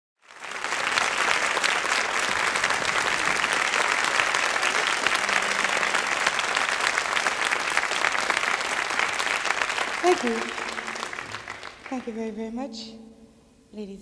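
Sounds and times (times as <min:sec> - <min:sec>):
audience applauding: 0:00.2 - 0:12.2.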